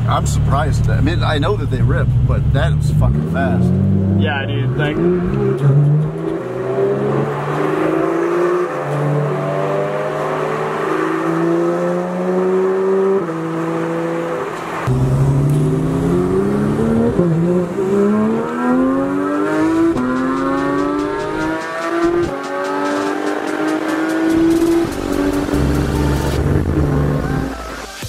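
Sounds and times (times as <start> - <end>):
car engine revving: 0.0 - 27.8.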